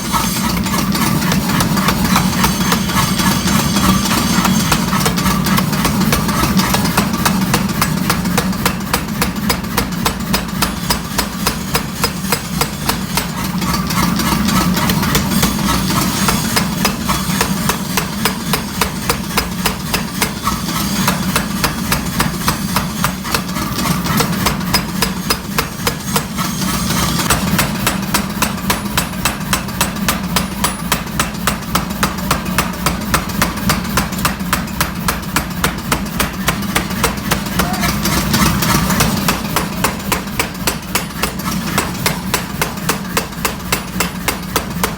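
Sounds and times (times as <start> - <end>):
steady machine hum: 0.0 - 44.6
hammer blows on steel: 0.0 - 44.9.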